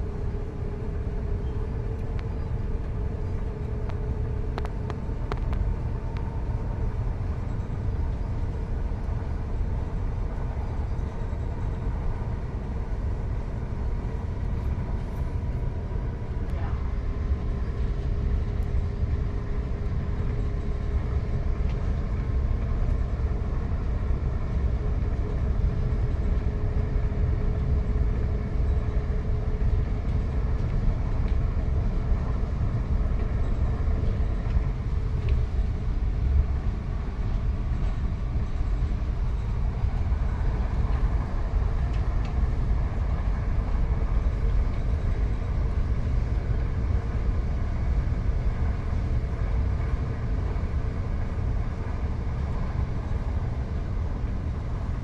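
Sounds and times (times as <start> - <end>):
faint steady hum: 0.0 - 55.0
train rumble inside carriage: 0.0 - 55.0.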